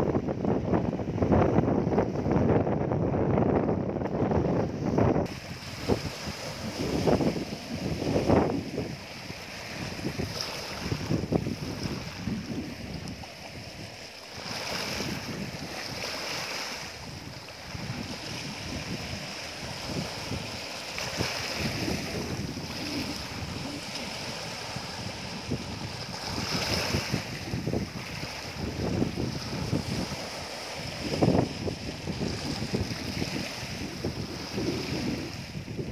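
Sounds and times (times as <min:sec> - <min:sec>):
wind buffeting microphone: 0:00.0 - 0:35.9
small waves washing over rocky shore: 0:05.3 - 0:35.9.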